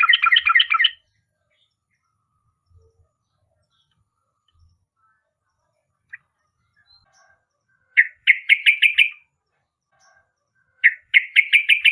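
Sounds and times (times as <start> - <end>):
bird singing: 0.0 - 11.9.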